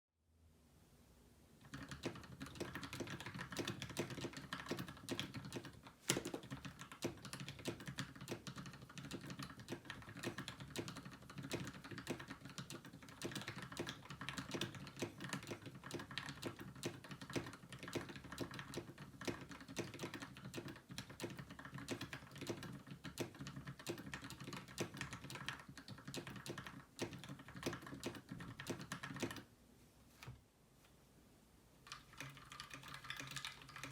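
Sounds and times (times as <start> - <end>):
mechanical keyboard typing: 1.6 - 29.5, 31.8 - 33.9.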